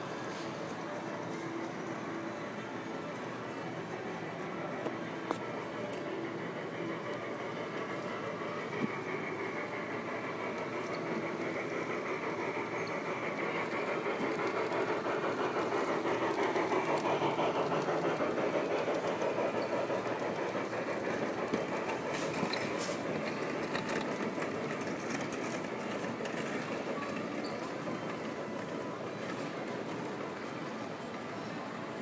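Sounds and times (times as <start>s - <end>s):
model trains rolling on track: 0.0s - 32.0s.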